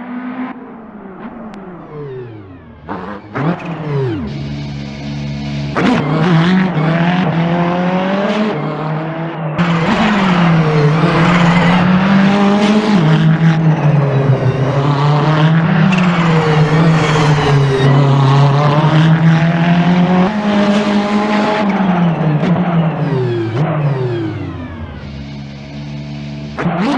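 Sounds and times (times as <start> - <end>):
race car engine revving: 0.0 - 26.9.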